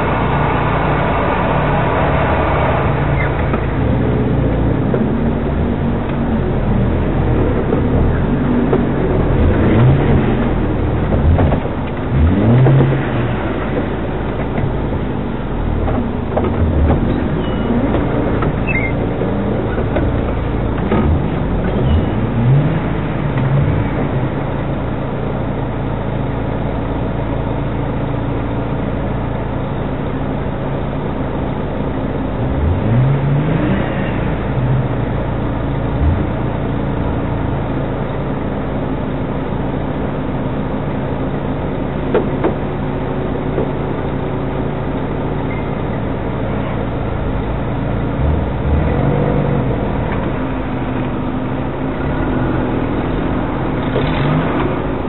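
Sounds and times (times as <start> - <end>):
off-road engine idling and revving: 0.0 - 55.0.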